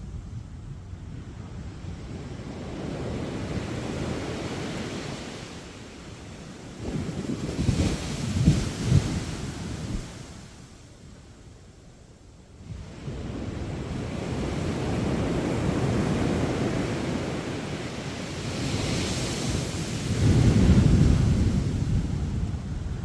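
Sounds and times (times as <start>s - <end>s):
wind on the microphone: 0.0s - 11.9s, 12.5s - 23.0s
sea waves on a beach: 0.9s - 11.6s, 12.5s - 23.0s.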